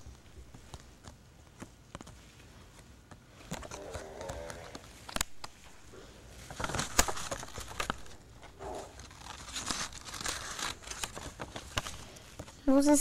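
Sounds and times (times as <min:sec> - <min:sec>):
paper card rustling: 0:00.0 - 0:13.0.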